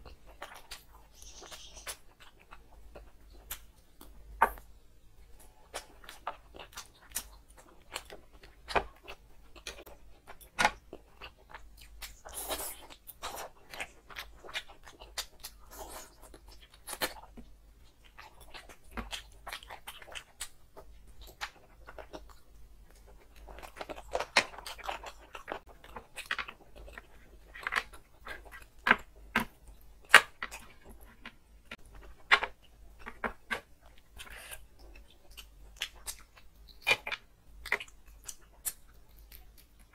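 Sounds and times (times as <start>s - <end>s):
chewing and crunching bone: 0.0s - 39.9s.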